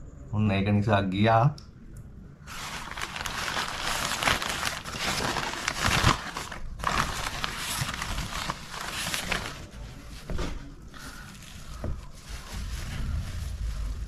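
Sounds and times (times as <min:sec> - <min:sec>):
paper wrapping crinkling: 0:02.5 - 0:14.0.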